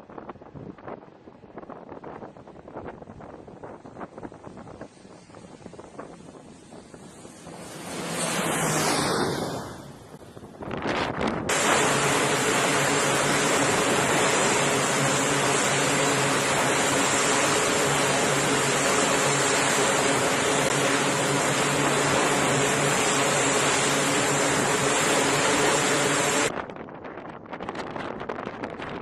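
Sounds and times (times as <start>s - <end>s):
aircraft engine running: 0.0s - 26.7s.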